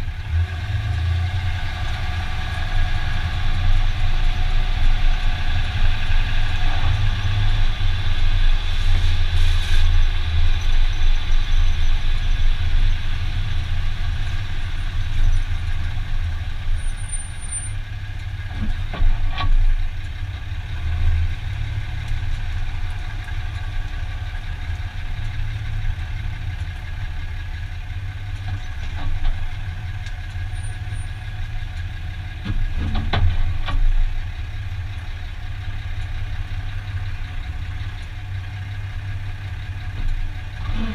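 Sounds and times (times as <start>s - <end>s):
engine whine: 0.0s - 40.9s
pickup engine running: 0.0s - 40.9s.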